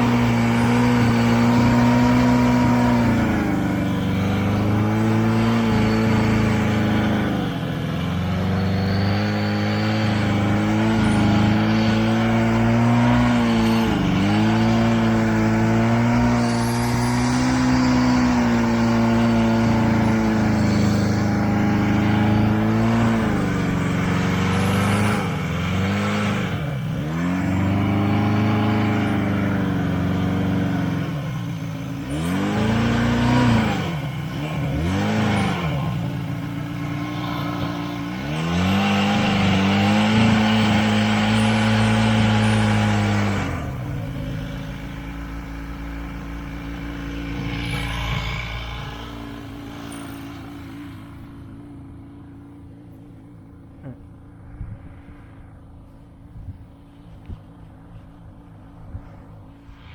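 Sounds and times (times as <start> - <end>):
snowmobile engine revving: 0.0 - 51.6.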